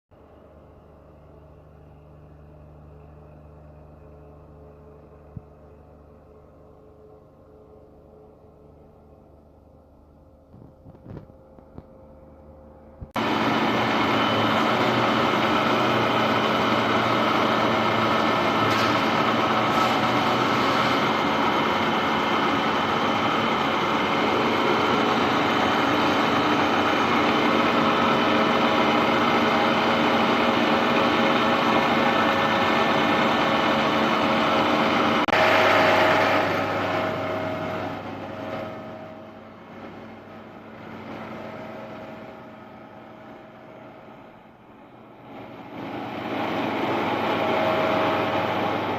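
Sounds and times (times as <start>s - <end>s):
milling machine hum and whine: 0.2s - 48.9s.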